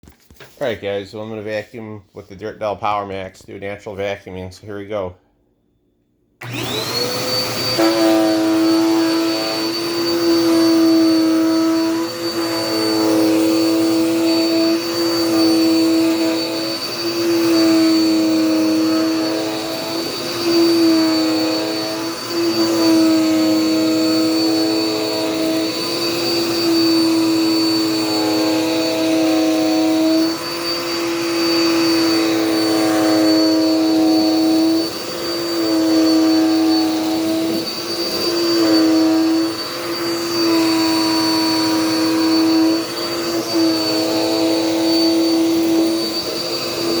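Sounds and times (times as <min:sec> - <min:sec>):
vacuum cleaner motor whine: 0:06.4 - 0:47.0.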